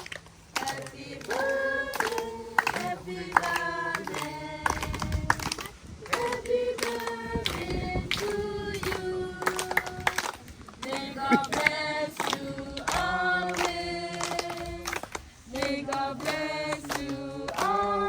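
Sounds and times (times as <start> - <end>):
group of voices singing: 0.0 - 18.0.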